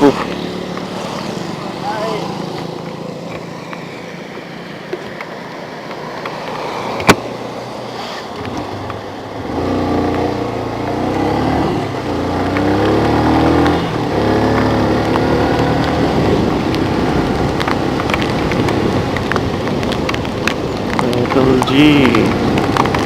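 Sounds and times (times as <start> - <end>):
vehicle engine accelerating: 0.0 - 23.0.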